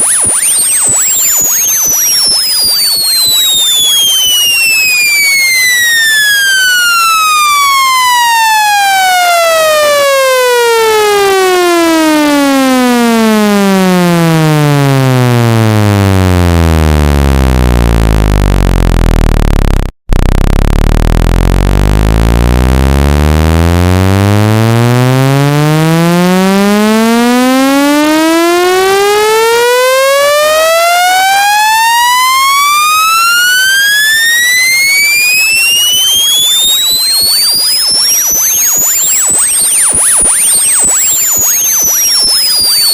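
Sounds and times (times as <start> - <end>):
synthesized tone sweeping in pitch: 0.0 - 42.9.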